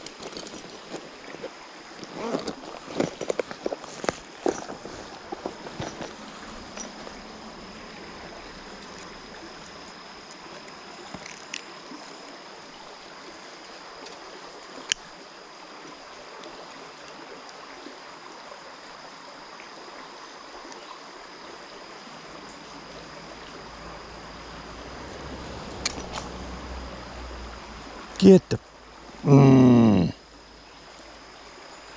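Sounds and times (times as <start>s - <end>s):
creek rushing: 0.0s - 31.9s.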